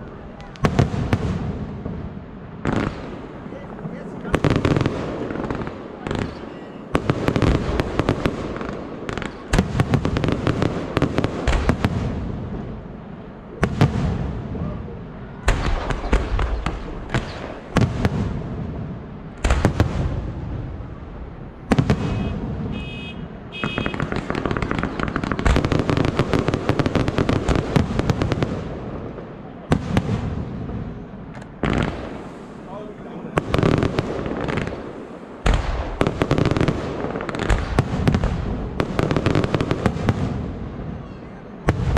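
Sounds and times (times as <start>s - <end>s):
fireworks bursting with crackling: 0.0s - 41.9s.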